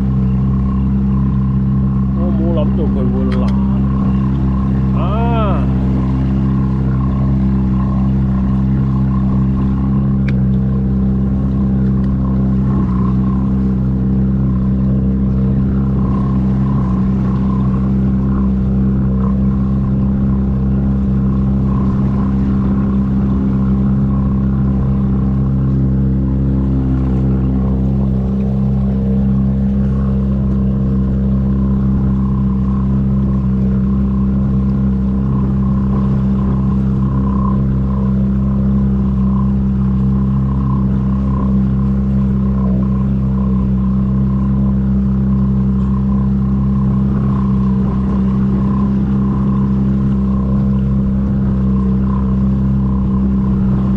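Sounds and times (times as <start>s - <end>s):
engine droning steadily: 0.0s - 53.9s.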